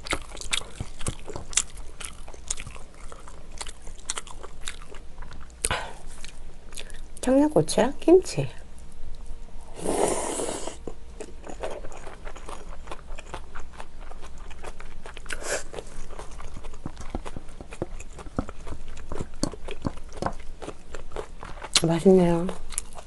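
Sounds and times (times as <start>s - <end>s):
close-miked chewing: 0.0s - 7.3s, 10.8s - 23.0s.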